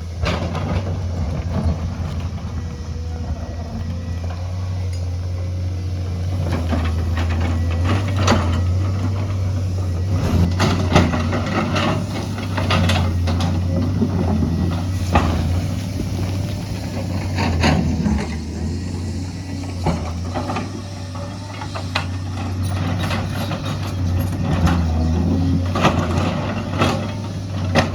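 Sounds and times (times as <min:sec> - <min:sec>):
diesel engine of heavy machinery: 0:00.0 - 0:27.9.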